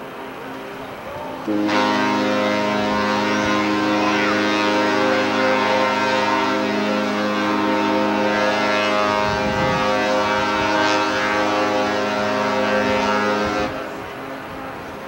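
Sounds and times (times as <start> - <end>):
ship's horn blast: 0.0 - 15.0.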